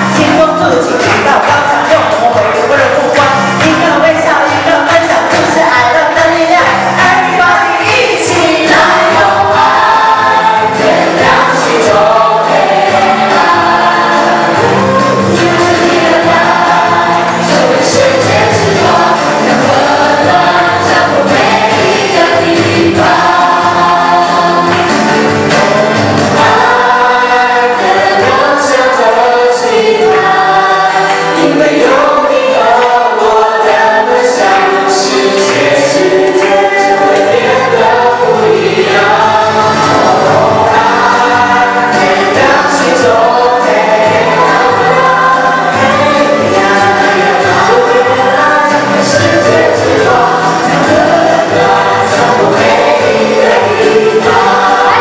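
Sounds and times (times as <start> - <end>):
amplified musical accompaniment: 0.0 - 55.0
group singing into microphones: 0.0 - 55.0.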